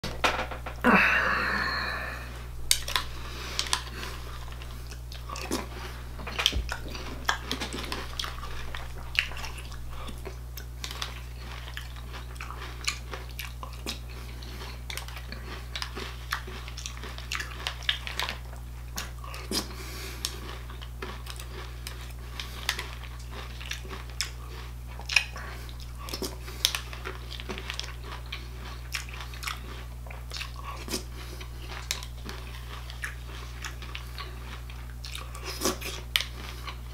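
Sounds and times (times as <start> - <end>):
person chewing crunchy cereal: 1.0 - 36.9.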